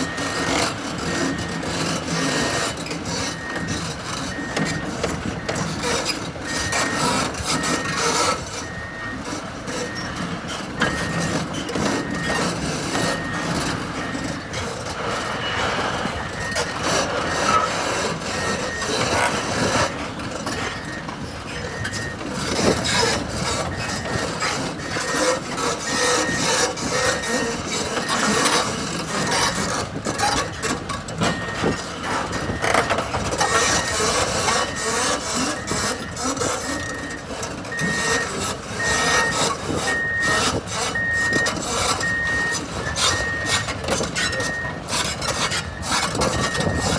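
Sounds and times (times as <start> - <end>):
high-pitched travel alarm beeping: 0.0 - 14.6, 21.6 - 44.8, 45.6 - 46.9
excavator diesel engine running: 0.0 - 46.9
machine clanking and scraping: 0.0 - 46.9.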